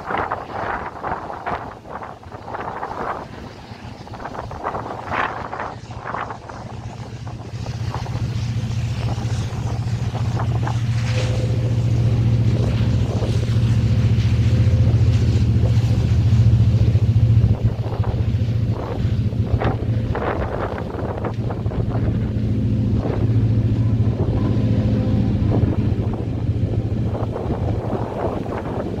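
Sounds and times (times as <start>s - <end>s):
freight cars passing: 0.0s - 29.0s
locomotive engine rumble: 0.0s - 29.0s
wind buffeting microphone: 0.0s - 29.0s.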